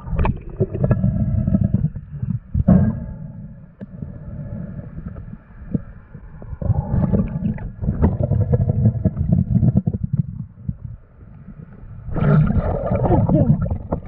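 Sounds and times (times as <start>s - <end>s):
underwater bubbling and crackling: 0.0s - 14.0s.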